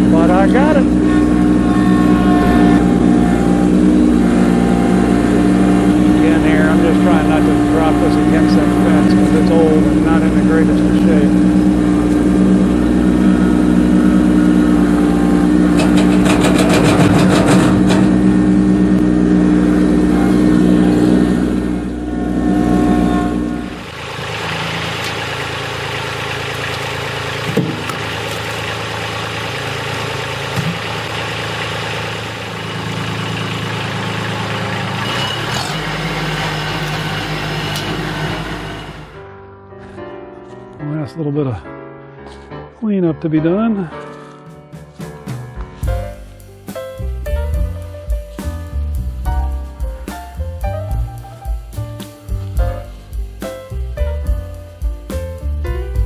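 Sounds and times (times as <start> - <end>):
tractor diesel engine running: 0.0 - 39.2, 45.8 - 56.0.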